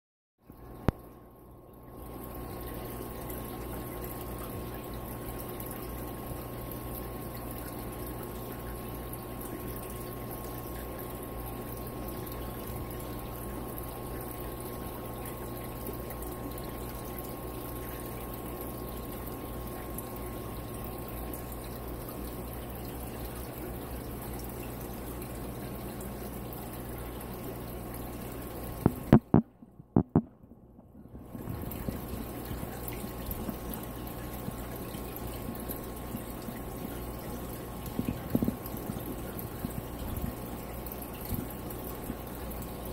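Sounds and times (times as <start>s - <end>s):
aquarium filter bubbling: 0.4s - 42.9s
steady hum: 0.5s - 42.9s.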